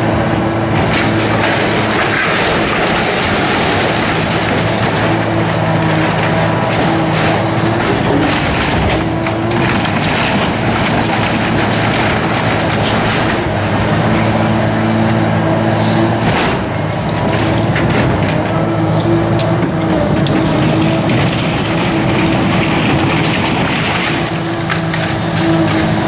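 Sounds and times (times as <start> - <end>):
excavator diesel engine running: 0.0 - 26.0
wood cracking and splintering: 0.0 - 26.0.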